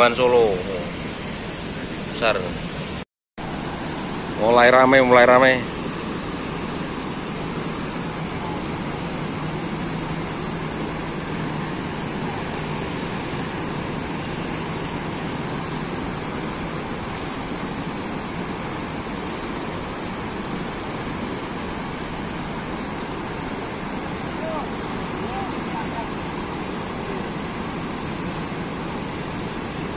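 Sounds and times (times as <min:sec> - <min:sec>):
river water rushing through dam gates: 0:00.0 - 0:29.9.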